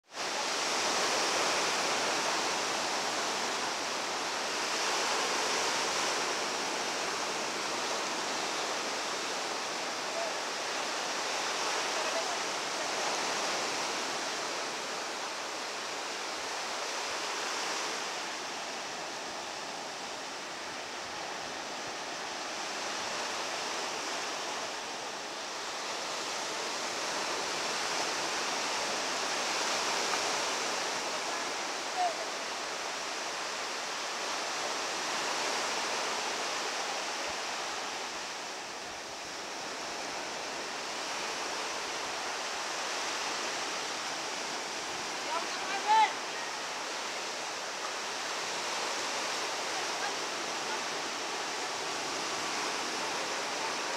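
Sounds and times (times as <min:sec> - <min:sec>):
sea waves washing on shore: 0:00.0 - 0:53.9.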